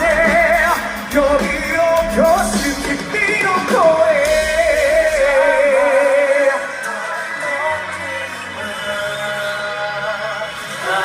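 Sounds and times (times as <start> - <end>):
live rock band: 0.0 - 11.0.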